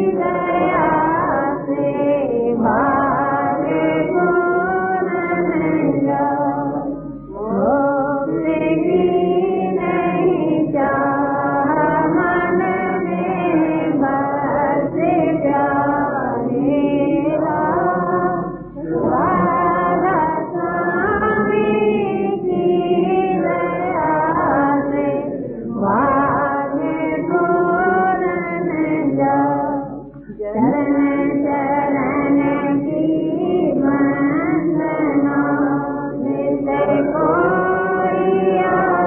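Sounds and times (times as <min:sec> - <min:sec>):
person singing a hymn: 0:00.0 - 0:39.0.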